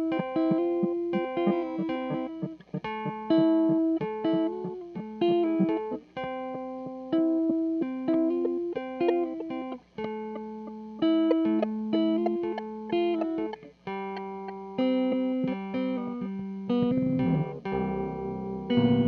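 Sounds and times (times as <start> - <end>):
electric guitar single notes: 0.0 - 19.0.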